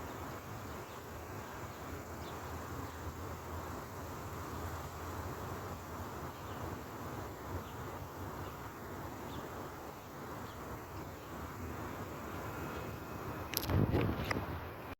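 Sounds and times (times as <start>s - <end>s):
steady hiss and low rumble: 0.0s - 14.9s.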